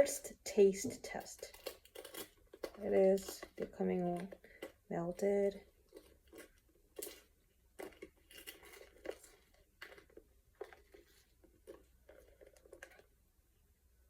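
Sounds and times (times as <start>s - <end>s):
faint handling clicks and rustles: 0.8s - 13.2s.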